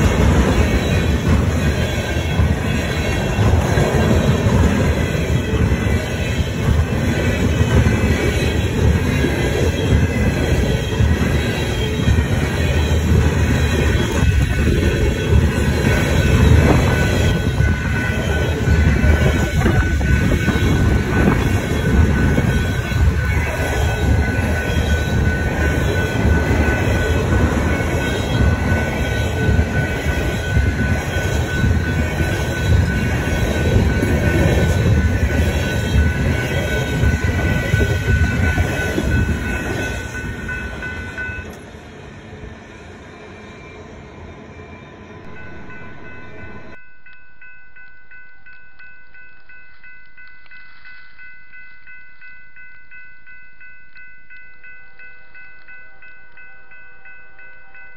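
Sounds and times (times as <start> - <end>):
freight train rumbling past: 0.0 - 50.6
high ringing tone: 4.9 - 41.7, 44.7 - 57.9.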